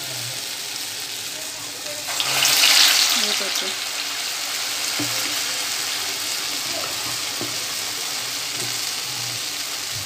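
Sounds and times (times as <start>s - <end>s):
fritters sizzling in hot oil: 0.0s - 10.0s.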